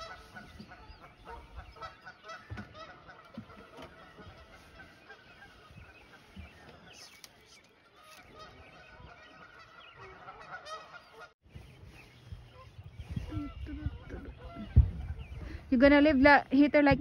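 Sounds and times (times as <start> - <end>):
distant waterfowl calling: 0.0 - 16.1.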